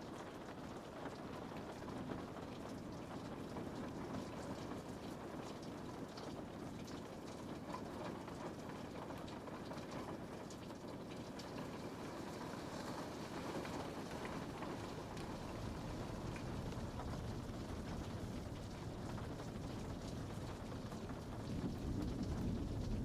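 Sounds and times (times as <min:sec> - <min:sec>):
rain on a window pane: 0:00.0 - 0:23.0.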